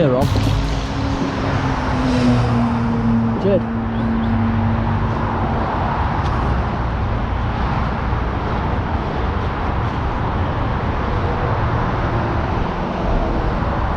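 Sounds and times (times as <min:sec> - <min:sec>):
road traffic rush: 0:00.0 - 0:13.9.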